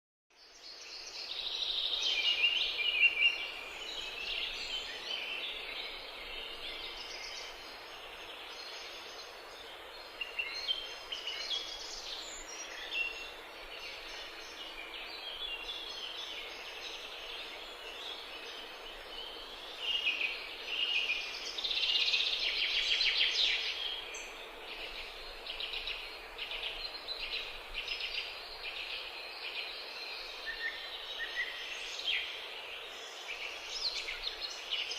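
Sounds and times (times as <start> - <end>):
songbirds chirping and trilling: 0.3 - 34.9
faint steady hiss: 0.4 - 34.9.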